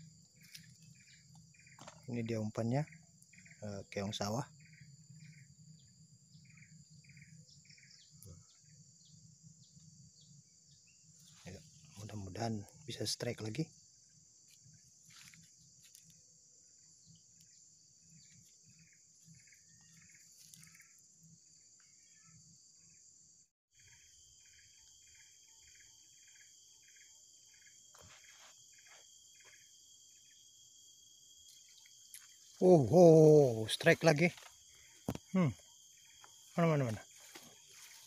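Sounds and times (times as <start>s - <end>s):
insect chorus drone: 0.0s - 38.0s
short insect chirps: 0.0s - 38.0s.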